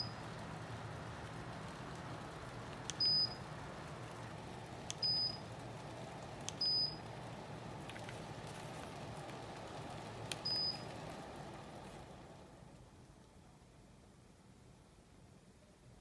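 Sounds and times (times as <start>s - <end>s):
fan whooshing and humming: 0.0s - 16.0s.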